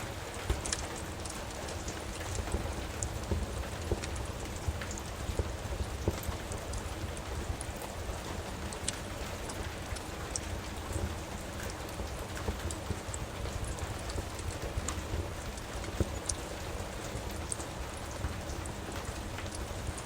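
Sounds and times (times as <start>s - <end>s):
steady rain: 0.0s - 20.0s
wood fire crackling: 0.0s - 20.0s.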